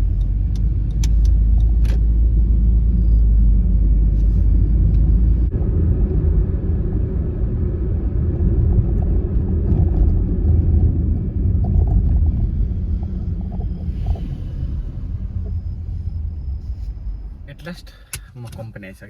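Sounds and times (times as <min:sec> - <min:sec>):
road and engine rumble in car: 0:00.0 - 0:19.0.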